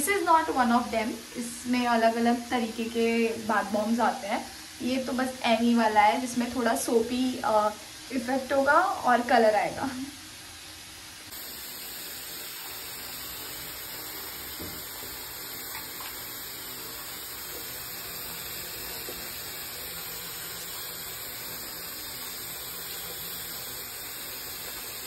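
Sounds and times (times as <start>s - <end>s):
water running into bathtub: 0.0s - 25.0s.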